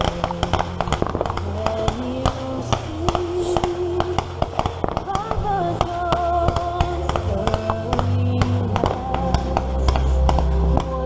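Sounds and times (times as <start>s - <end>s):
anthem in long held notes: 0.0s - 11.0s
fireworks popping: 0.0s - 11.0s.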